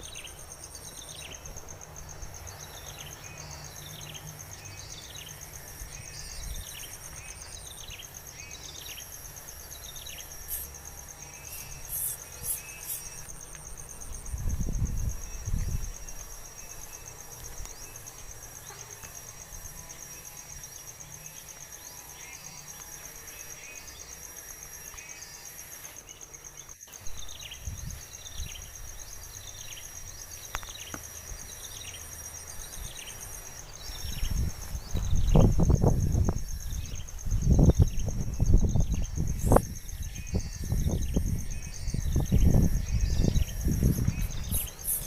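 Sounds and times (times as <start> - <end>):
insect trilling: 0.0 - 45.0.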